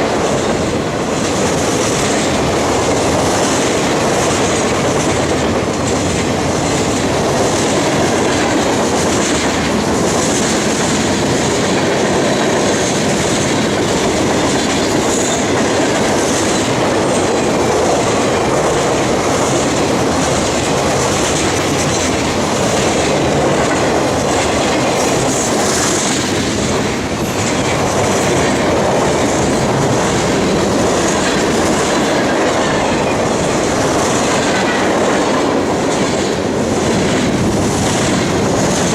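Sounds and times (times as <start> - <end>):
train cars rolling past: 0.0 - 38.9
wheels clacking over rail joints: 0.0 - 38.9.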